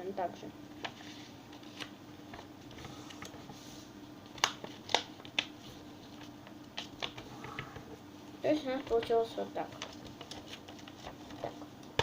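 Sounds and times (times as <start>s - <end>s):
paper being folded: 0.8s - 7.9s, 8.6s - 12.0s.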